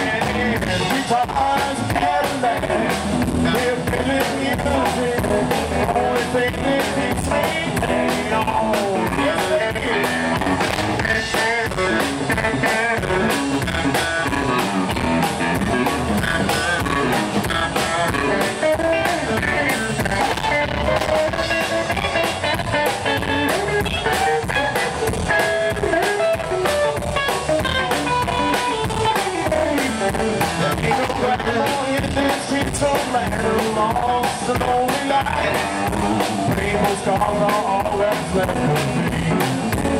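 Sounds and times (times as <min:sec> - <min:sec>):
drum kit beat: 0:00.0 - 0:39.9
electric guitar lead lines: 0:00.0 - 0:39.9
upright bass: 0:00.0 - 0:39.9.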